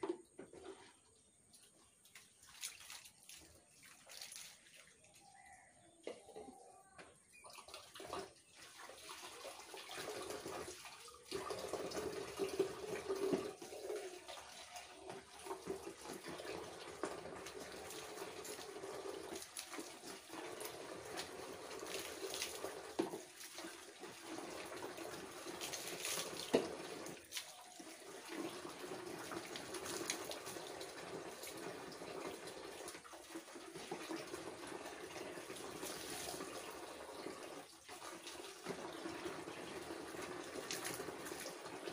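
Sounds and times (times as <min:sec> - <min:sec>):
water running and splashing: 0:01.4 - 0:05.7, 0:07.3 - 0:41.9.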